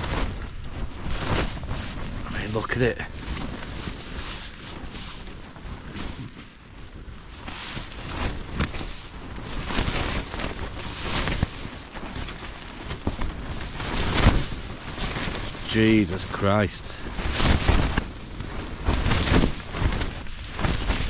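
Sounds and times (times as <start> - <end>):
storm wind gusts: 0.0 - 21.0
tent fabric flapping: 0.0 - 21.0.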